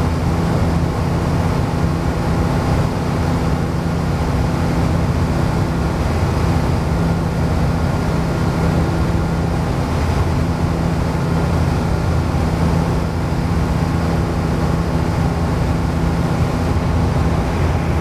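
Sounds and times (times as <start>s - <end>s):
light aircraft engine drone: 0.0s - 18.0s.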